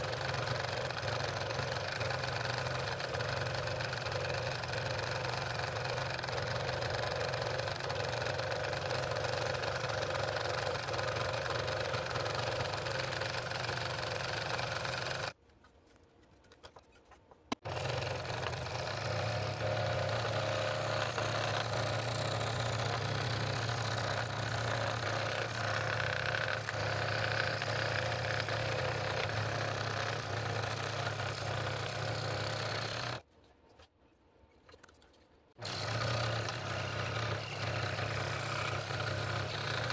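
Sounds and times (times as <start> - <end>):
scroll saw humming: 0.0 - 15.4, 17.5 - 33.2, 35.6 - 39.9.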